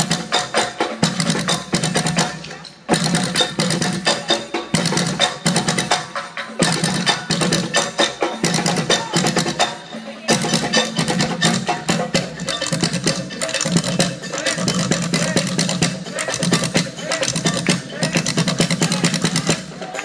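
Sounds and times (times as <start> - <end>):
percussion ensemble drumming: 0.0 - 20.0.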